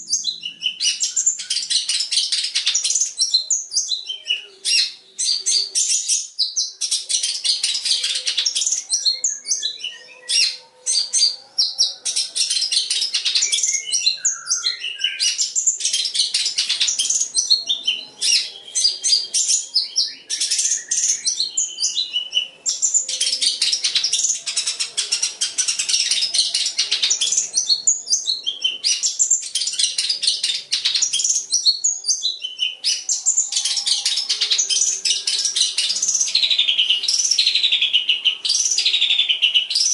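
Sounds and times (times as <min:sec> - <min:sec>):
bird chattering song with trills: 0:00.0 - 0:39.9.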